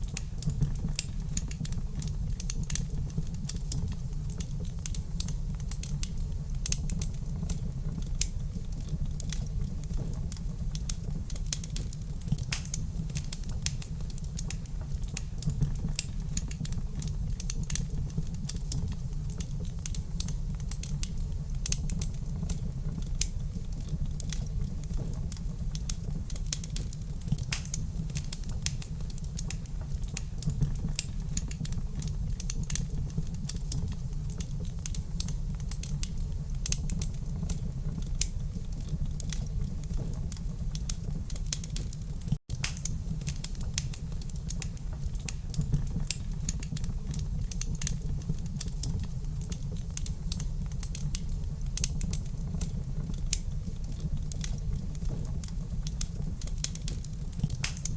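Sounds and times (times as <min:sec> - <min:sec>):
low steady rumble: 0:00.0 - 0:57.9
wood fire crackling and popping: 0:00.0 - 0:57.9.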